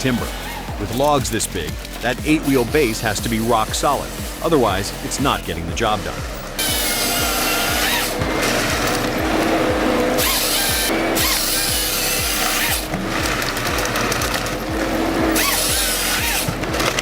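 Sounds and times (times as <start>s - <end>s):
background music with steady beat: 0.0s - 17.0s
harvester saw cutting logs: 0.0s - 17.0s.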